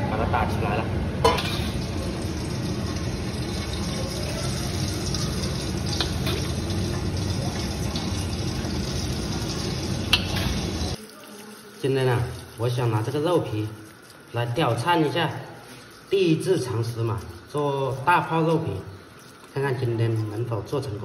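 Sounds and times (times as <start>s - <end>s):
liquid fat pouring into pot: 1.4s - 21.0s.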